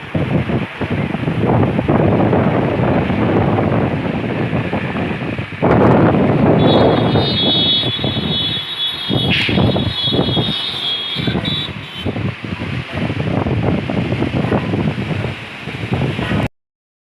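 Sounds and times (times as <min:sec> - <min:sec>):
storm wind gusting on microphone: 0:00.0 - 0:16.5.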